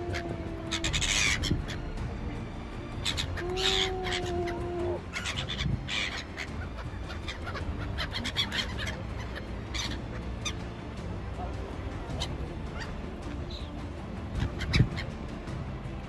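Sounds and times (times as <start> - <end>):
gulls squawking: 0.0 - 16.0.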